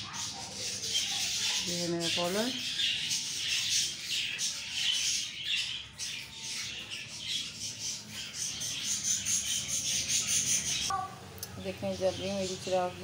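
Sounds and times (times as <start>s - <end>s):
small birds chattering and squawking: 0.0s - 13.0s.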